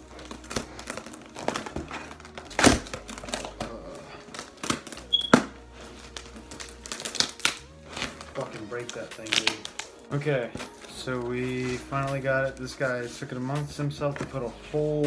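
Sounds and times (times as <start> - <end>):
packing paper crumpling: 0.0 - 14.8.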